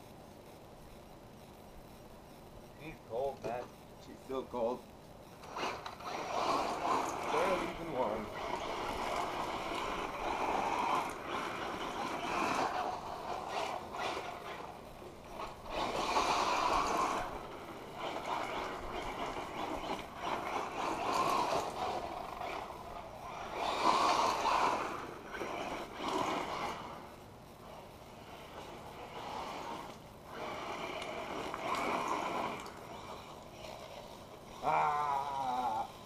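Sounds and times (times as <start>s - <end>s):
rc car motor on gravel: 0.0s - 36.0s.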